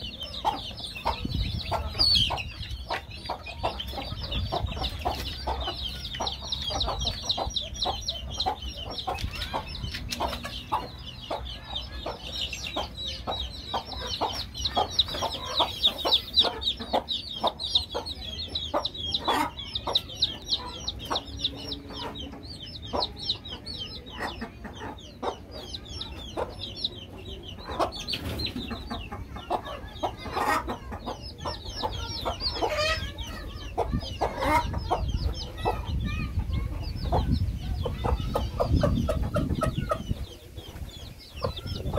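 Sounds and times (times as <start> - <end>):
chickens clucking: 0.0 - 41.9
chicks peeping: 0.0 - 41.9.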